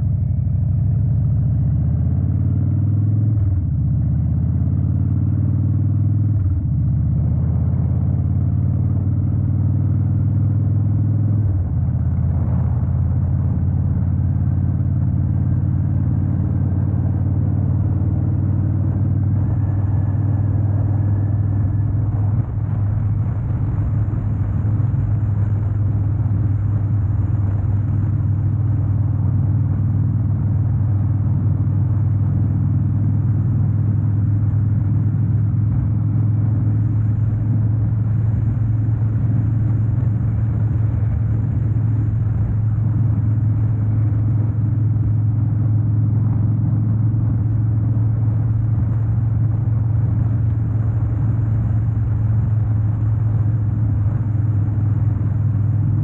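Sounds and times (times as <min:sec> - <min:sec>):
motorcycle engine rumble: 0:00.0 - 0:56.0
road noise: 0:00.0 - 0:56.0.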